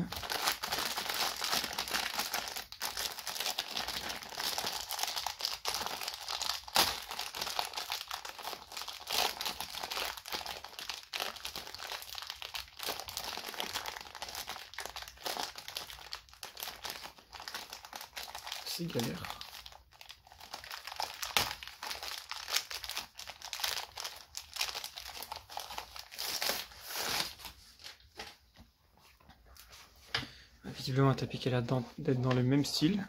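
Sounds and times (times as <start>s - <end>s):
plastic film crinkling: 0.0s - 28.4s.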